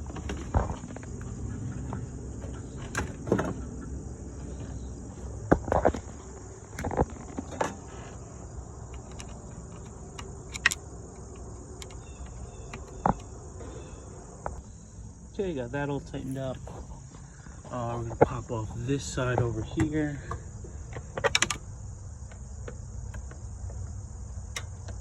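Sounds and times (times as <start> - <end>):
engine parts clicking and knocking: 0.0 - 14.6, 15.7 - 25.0
insects chirring: 0.0 - 25.0.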